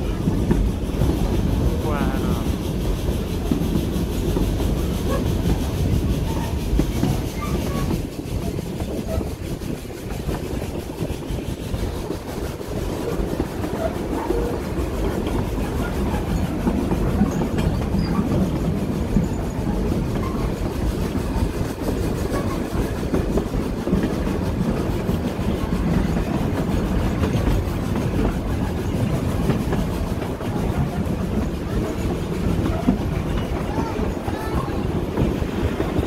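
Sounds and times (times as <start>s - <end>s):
wheels rumbling on rails: 0.0s - 36.0s.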